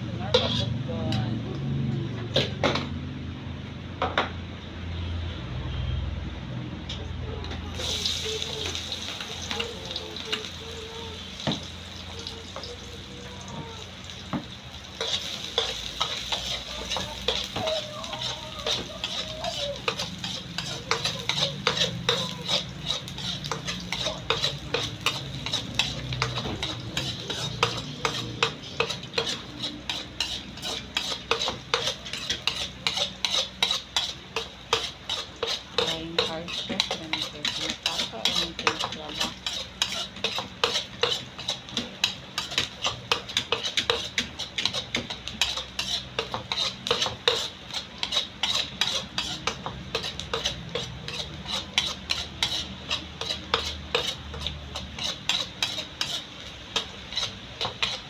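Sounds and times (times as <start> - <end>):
metal spatula scraping wok: 0.1 - 1.5, 7.6 - 58.0
onion sizzling: 7.6 - 58.0.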